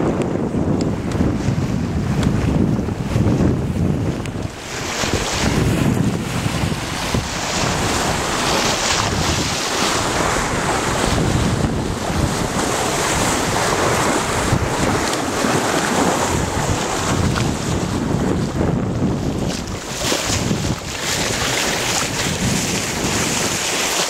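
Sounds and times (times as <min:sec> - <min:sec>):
water rushing along a hull: 0:00.0 - 0:24.0
wind buffeting microphone: 0:00.0 - 0:24.0.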